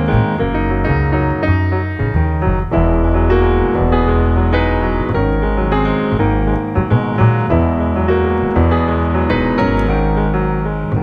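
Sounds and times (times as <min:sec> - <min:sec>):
double bass low notes: 0:00.0 - 0:11.0
jazz piano chords and melody: 0:00.0 - 0:11.0.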